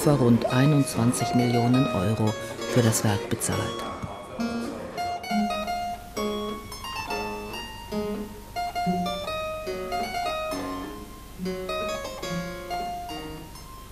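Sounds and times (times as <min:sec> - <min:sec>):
harpsichord music: 0:00.0 - 0:13.9.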